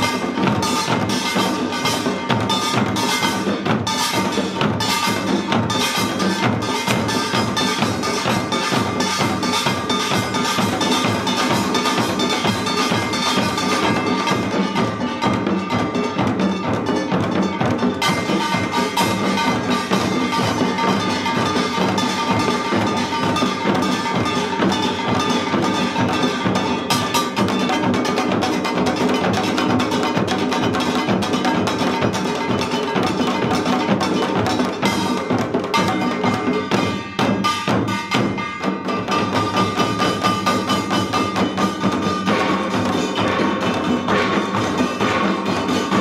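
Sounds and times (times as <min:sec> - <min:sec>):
drums playing fast rhythm: 0:00.0 - 0:46.0
small gongs clanging: 0:00.0 - 0:46.0.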